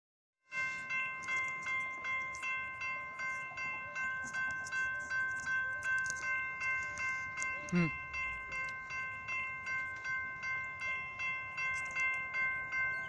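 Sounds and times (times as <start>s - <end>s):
railroad crossing bell ringing: 0.4s - 13.0s.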